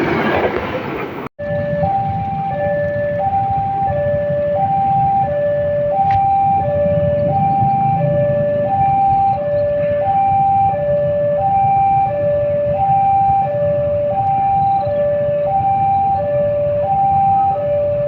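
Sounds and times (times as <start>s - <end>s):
level crossing two-tone alarm: 1.4s - 18.0s.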